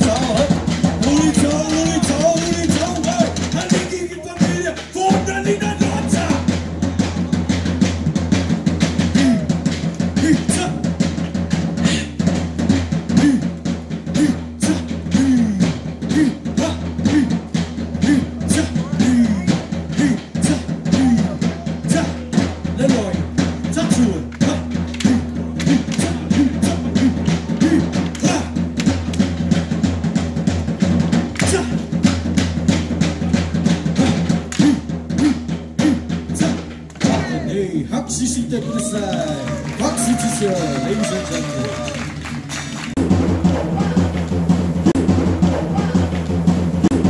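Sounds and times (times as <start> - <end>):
fast driving drumming: 0.0 - 47.0.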